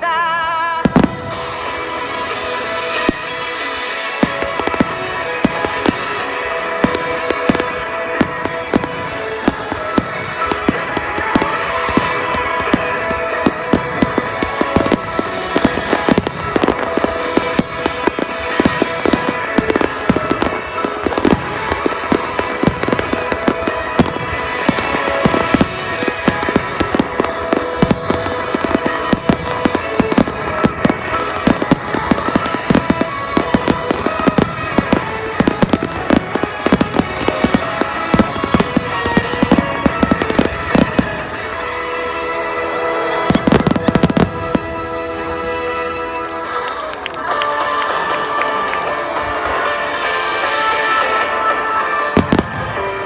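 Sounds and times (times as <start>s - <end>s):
music playing: 0.0s - 53.0s
fireworks rapid bangs and crackles: 0.7s - 53.0s.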